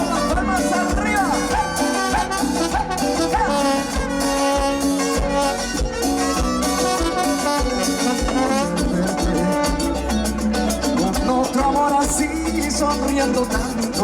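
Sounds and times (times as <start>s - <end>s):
latin dance band with horns: 0.0s - 14.0s.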